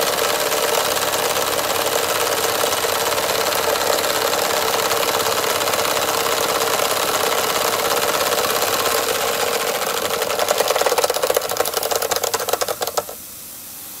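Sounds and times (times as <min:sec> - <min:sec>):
model steam engine chuffing: 0:00.0 - 0:13.2.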